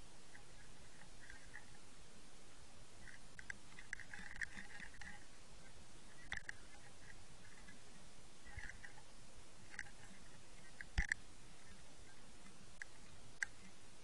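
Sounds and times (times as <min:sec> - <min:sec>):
small underwater clicks and crackles: 0:00.1 - 0:01.9, 0:03.0 - 0:13.8.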